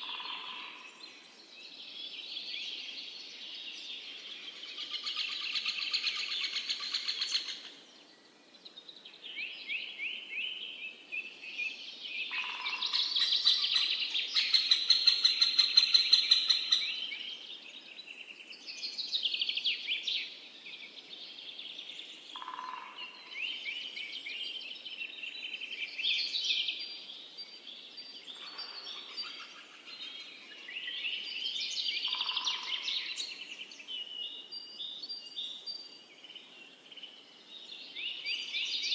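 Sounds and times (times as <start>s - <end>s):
songbirds chorus: 0.0s - 15.0s, 16.4s - 38.9s.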